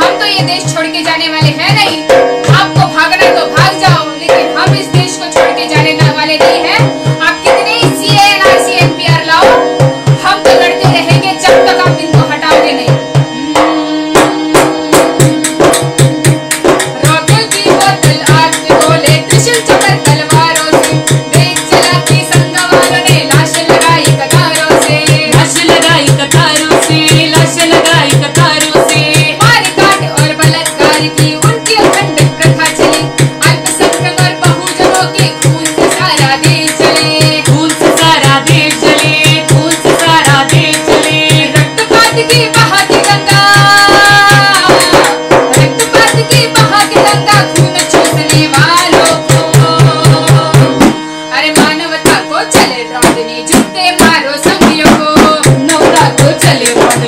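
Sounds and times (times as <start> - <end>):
frame drum beating: 0.0 - 57.0
harmonium chords: 0.0 - 57.0
woman singing: 0.0 - 57.0.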